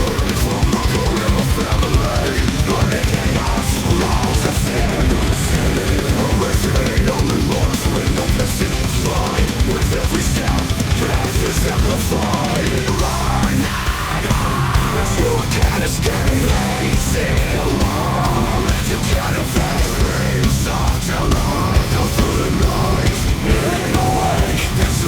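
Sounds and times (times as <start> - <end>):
heavy metal music: 0.0 - 25.0.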